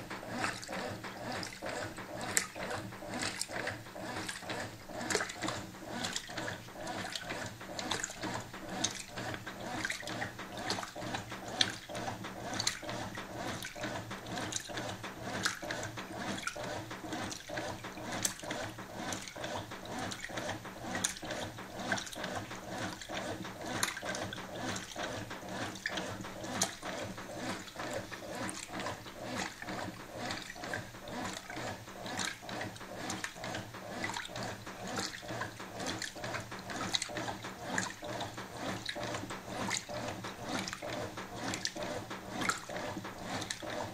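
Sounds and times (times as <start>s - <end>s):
washing machine motor hum: 0.0s - 43.9s
water sloshing in washing machine: 0.0s - 43.9s.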